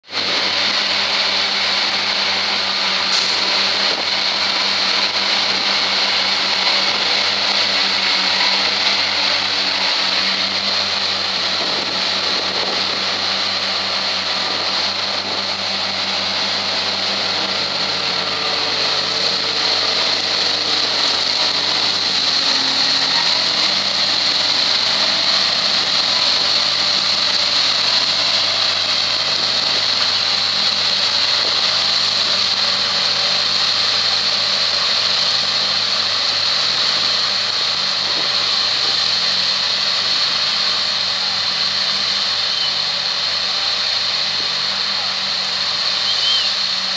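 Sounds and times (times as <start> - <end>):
high-pitched mower drive hiss: 0.0 - 46.9
tractor engine droning: 0.0 - 46.9.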